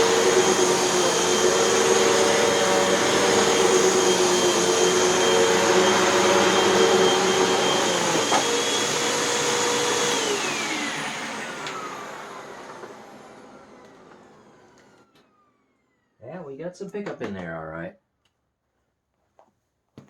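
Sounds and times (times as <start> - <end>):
vacuum cleaner motor whine: 0.0 - 16.2.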